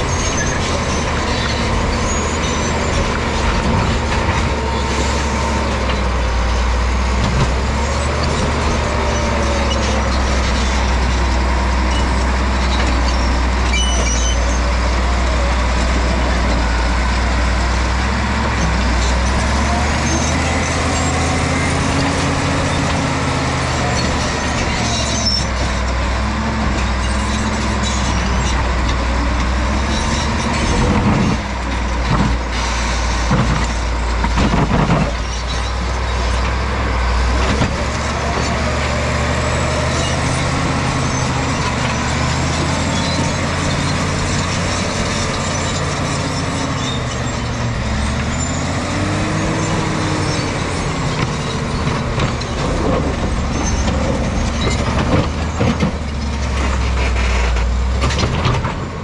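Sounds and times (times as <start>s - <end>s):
diesel bulldozer engine under load: 0.0s - 59.0s.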